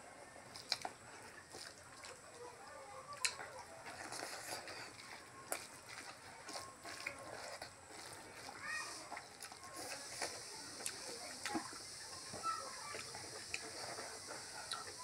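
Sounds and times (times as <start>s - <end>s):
chewing and lip-smacking: 0.4s - 2.5s, 3.1s - 12.0s, 12.8s - 15.0s.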